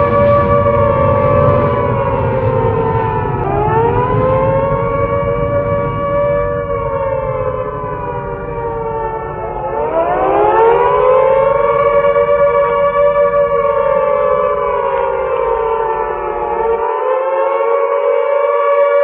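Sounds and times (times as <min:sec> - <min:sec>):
low rumble: 0:00.0 - 0:16.8
sirens wailing: 0:00.0 - 0:19.0.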